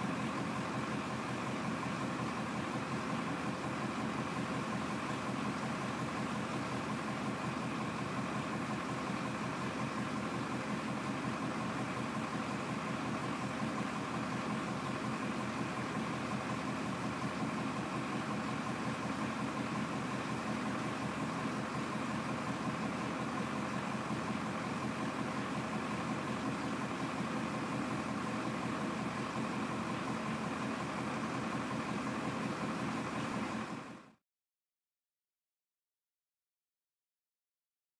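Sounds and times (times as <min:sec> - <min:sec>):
diesel engine idling: 0:00.0 - 0:34.2.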